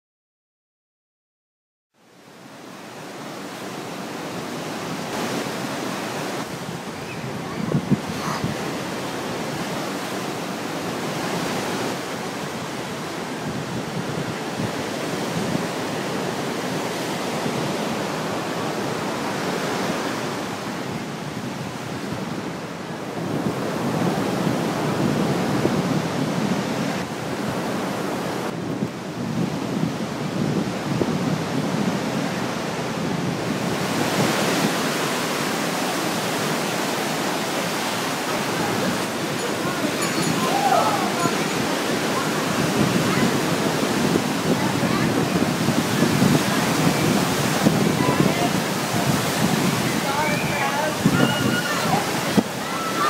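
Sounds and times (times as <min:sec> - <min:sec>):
ocean surf washing on beach: 0:02.0 - 0:53.0
wind noise on microphone: 0:02.8 - 0:53.0.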